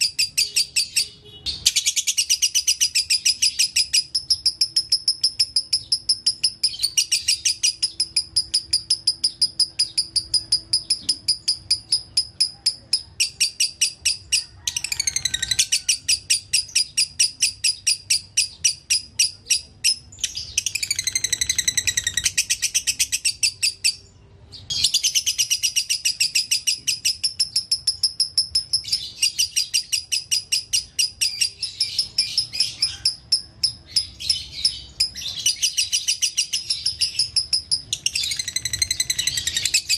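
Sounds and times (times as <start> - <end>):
lovebird chattering song: 0.0 - 39.9.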